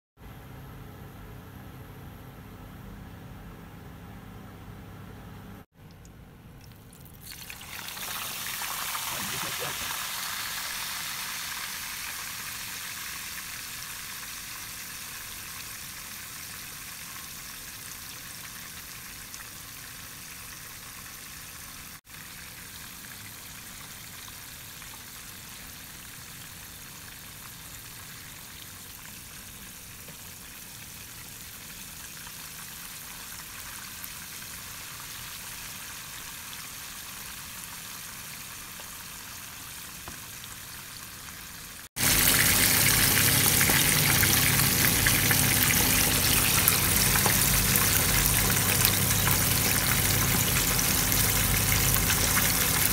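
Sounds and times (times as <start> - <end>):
fish sizzling in hot oil: 6.7 - 52.9.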